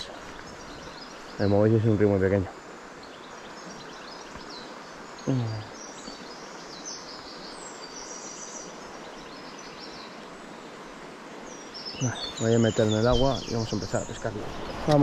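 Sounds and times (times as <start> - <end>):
birds chirping: 0.0 - 15.0
river rushing: 0.0 - 15.0.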